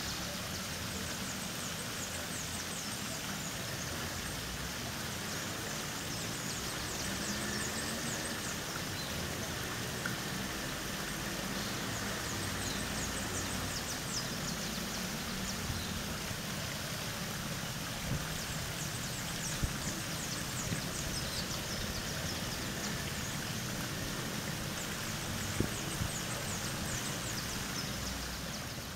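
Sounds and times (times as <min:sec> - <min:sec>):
fountain splashing: 0:00.0 - 0:28.9
small birds chirping: 0:00.1 - 0:28.9.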